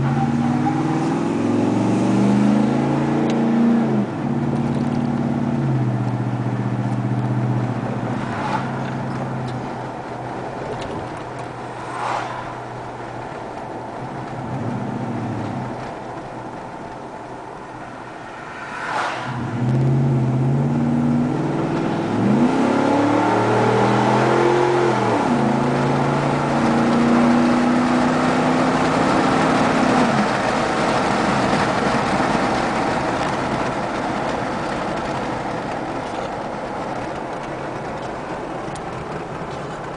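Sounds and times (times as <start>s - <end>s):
road noise: 0.0s - 39.9s
truck exhaust accelerating: 0.0s - 39.9s.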